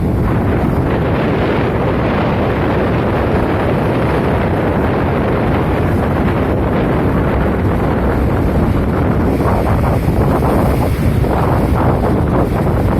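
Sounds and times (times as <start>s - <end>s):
sea surf washing: 0.0s - 12.9s
wind buffeting microphone: 0.0s - 12.9s.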